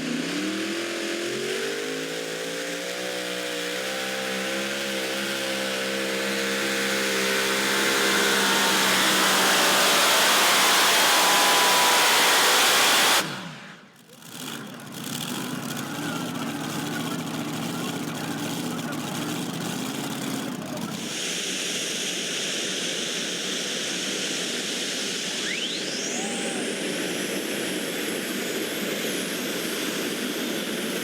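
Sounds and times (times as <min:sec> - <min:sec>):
tractor engine at full throttle: 0:00.0 - 0:31.0.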